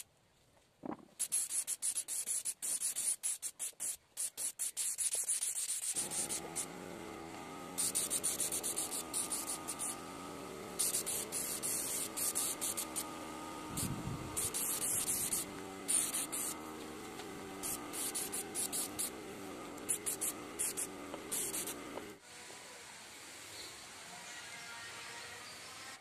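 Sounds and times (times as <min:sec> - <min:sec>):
spray gun hissing bursts: 0:01.2 - 0:22.2.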